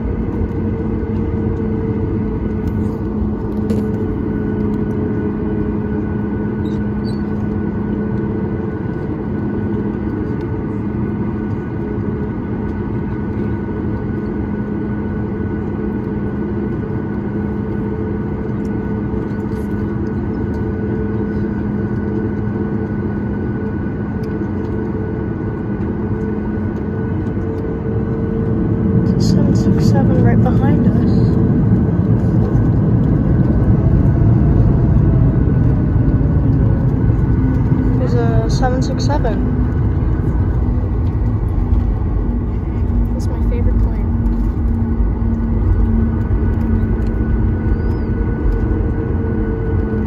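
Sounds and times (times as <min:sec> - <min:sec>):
aircraft cabin engine rumble: 0:00.0 - 0:50.0
constant engine whining tones: 0:00.0 - 0:50.0.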